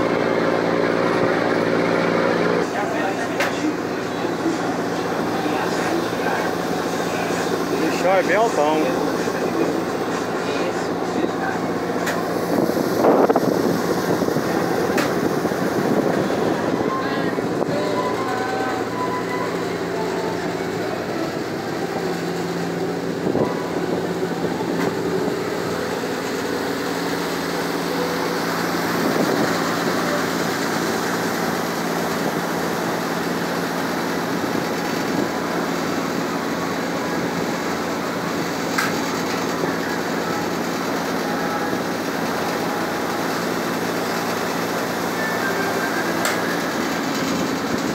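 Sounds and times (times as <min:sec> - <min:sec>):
ferry engines droning: 0:00.0 - 0:47.9.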